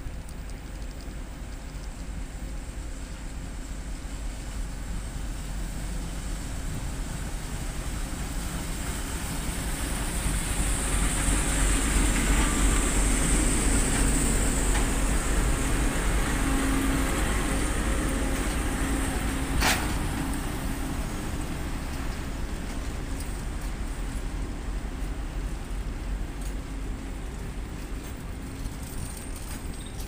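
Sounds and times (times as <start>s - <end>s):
train coaches rolling on rails: 0.0s - 30.0s
diesel locomotive engine running: 0.4s - 30.0s.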